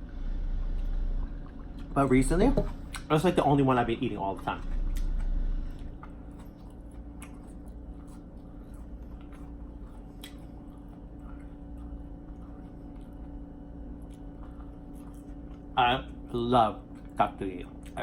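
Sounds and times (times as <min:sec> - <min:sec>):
low rumble: 0:00.0 - 0:16.4
low background hum: 0:00.0 - 0:18.0
chewing food: 0:00.5 - 0:03.4, 0:04.3 - 0:18.0.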